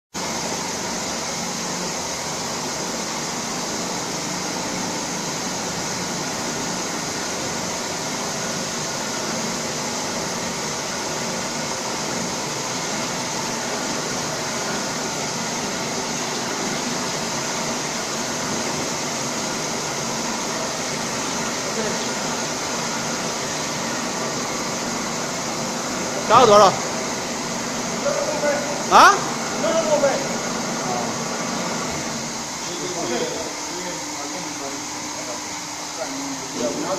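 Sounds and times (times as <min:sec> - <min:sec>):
machine whirring and hissing: 0:00.2 - 0:36.9.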